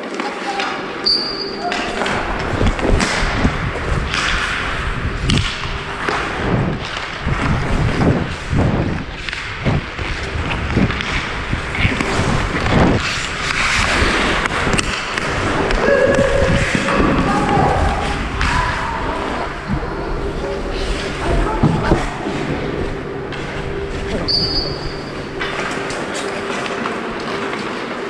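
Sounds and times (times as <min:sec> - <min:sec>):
skate blades scraping ice: 0:00.0 - 0:28.0
wind rumble on microphone: 0:01.9 - 0:25.5.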